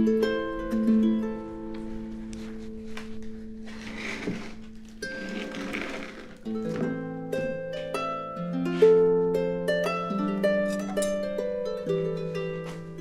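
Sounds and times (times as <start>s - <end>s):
plucked string melody: 0.0s - 13.0s.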